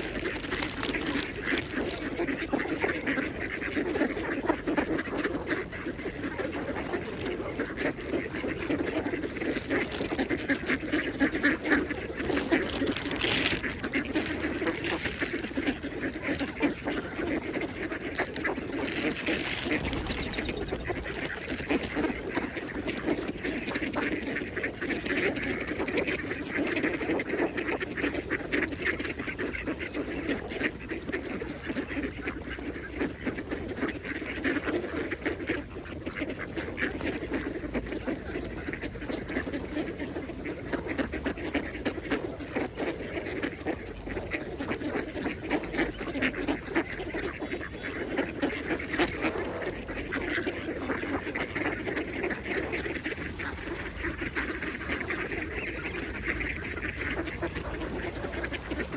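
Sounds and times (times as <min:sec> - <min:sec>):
ducks quacking: 0:00.0 - 0:58.9.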